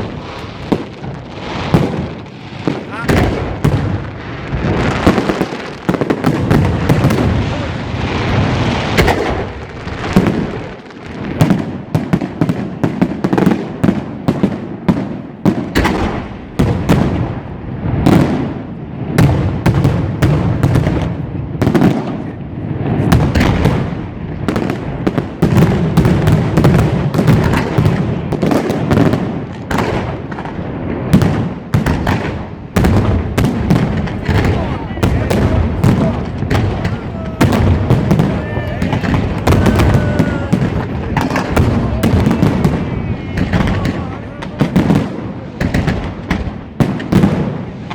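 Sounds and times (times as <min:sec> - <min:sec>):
fireworks bangs and bursts: 0:00.0 - 0:47.9.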